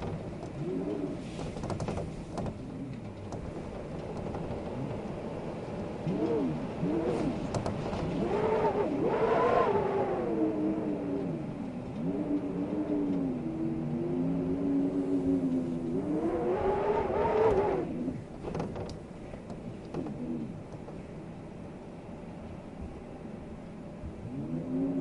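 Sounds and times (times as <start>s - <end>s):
howling wind: 0.0s - 25.0s.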